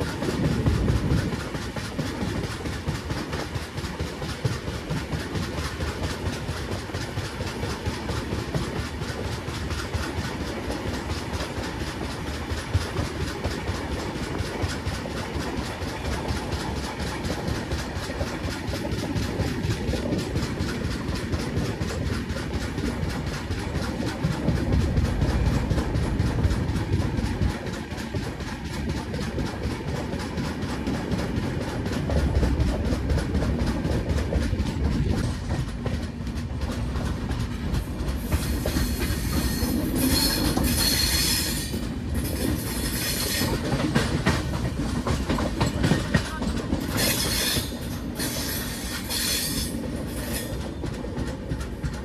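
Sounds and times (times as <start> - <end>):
train wheels on track: 0.0 - 52.0.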